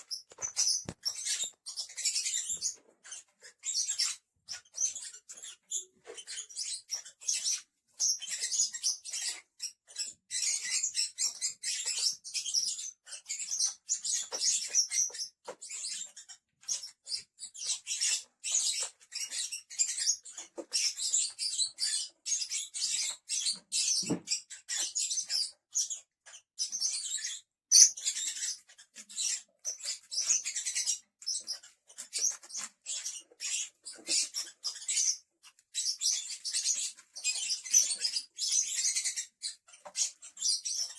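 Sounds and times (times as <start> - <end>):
lovebirds chattering: 0.0 - 40.9.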